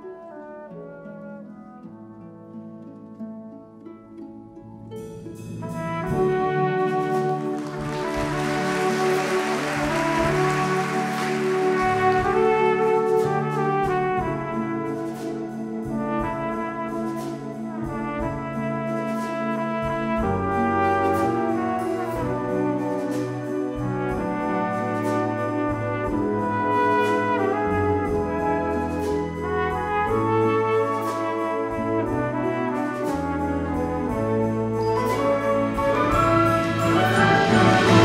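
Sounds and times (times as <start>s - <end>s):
solo brass melody: 0.0s - 2.6s, 5.6s - 38.0s
symphonic wind band playing: 5.4s - 38.0s.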